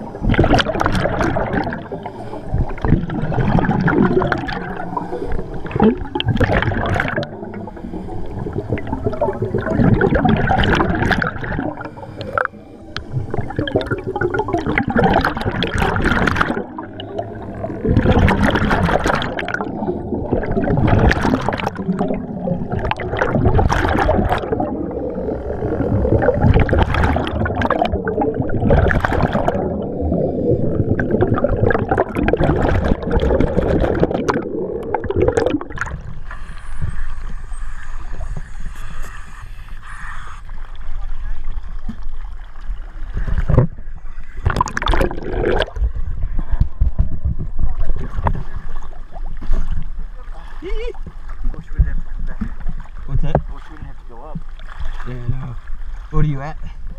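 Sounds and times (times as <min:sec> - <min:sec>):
underwater air bubbles gurgling: 0:00.0 - 0:56.9.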